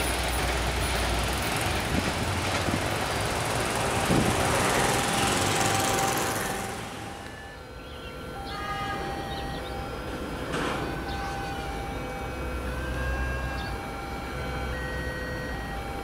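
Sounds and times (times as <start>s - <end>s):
freight wagons rumbling over rails: 0.0s - 16.0s.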